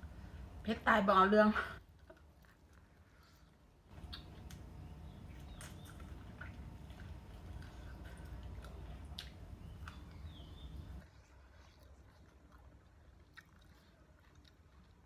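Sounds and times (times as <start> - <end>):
wet chewing and smacking: 1.8 - 15.0.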